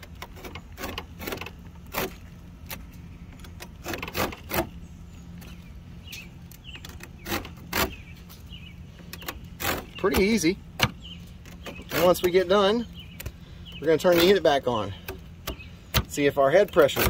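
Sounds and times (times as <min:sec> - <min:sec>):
comb scraping metal fins: 0:00.0 - 0:04.8, 0:05.4 - 0:17.0
steady low hum: 0:00.0 - 0:17.0.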